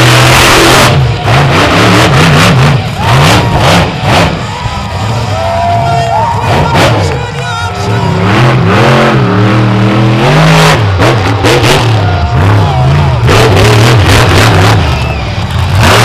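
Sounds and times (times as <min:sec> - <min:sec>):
loud arena music: 0:00.0 - 0:16.0
monster truck engine revving: 0:00.0 - 0:16.0.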